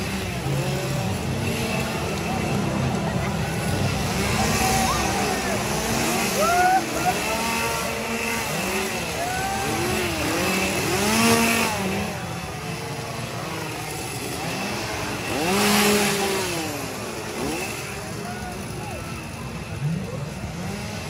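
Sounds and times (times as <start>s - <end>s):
small engines revving: 0.0s - 21.0s.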